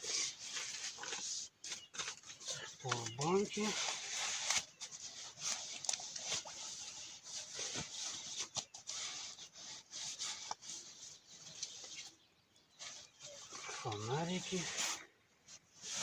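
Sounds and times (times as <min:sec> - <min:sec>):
camping gear rustling and clicking: 0:00.0 - 0:16.0.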